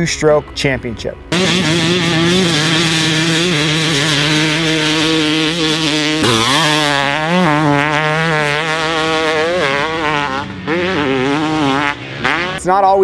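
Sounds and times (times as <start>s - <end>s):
two-stroke motocross engine revving: 1.3s - 13.0s.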